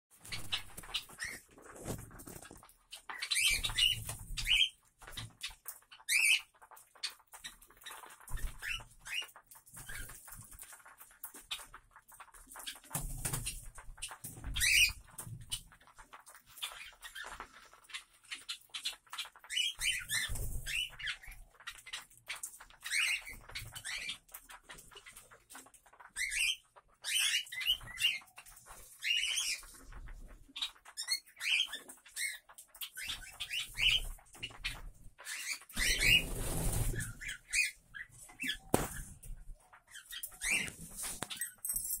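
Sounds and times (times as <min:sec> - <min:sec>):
wings flapping: 0:00.1 - 0:41.6
cockatiels chirping and calling: 0:00.2 - 0:41.7.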